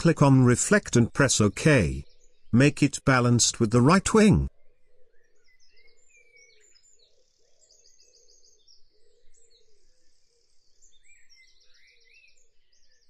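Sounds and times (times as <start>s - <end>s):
faint birdsong: 0.2s - 13.0s.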